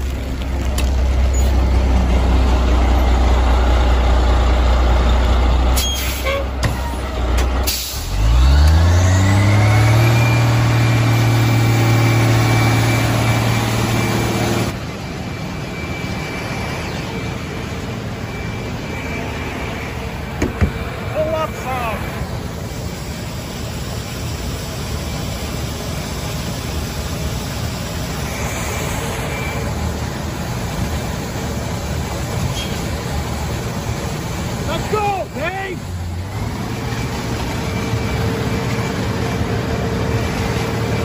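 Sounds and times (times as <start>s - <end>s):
diesel engine revving with whine: 0.0s - 41.0s.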